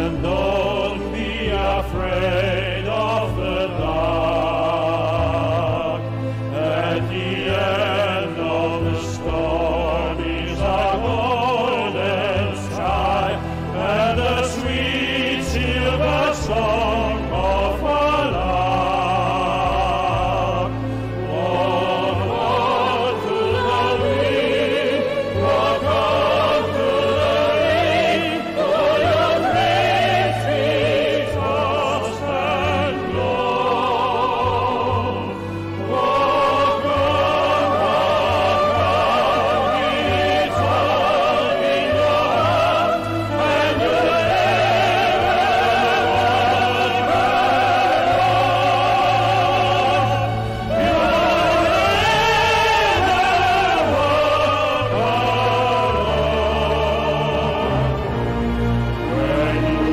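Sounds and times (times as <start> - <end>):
operatic singing: 0.0 - 59.9.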